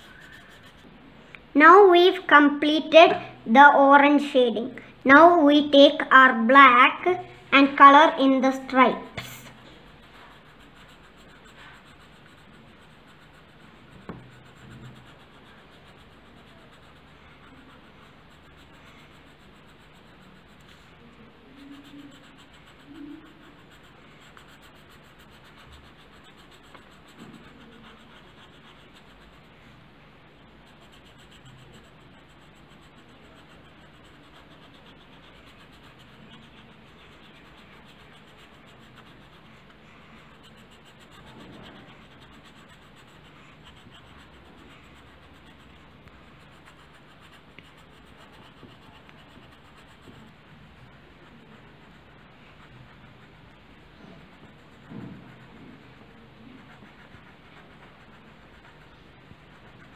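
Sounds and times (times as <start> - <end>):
pencil scratching on paper: 0.0 - 1.0, 1.6 - 59.9.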